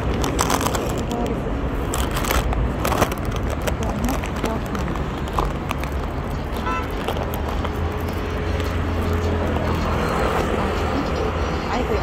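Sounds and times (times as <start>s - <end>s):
street traffic rumbling: 0.0s - 12.0s.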